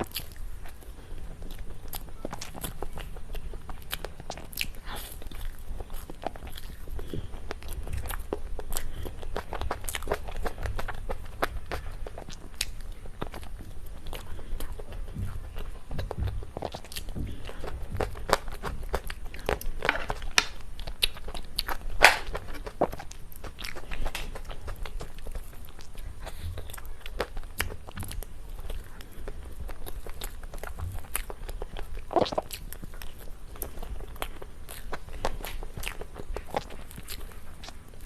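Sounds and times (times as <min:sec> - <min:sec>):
person chewing cake: 0:00.0 - 0:38.0.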